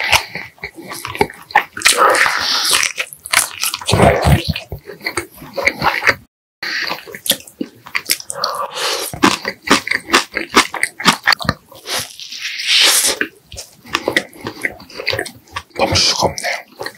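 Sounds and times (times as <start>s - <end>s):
person chewing meat: 0.0s - 16.9s.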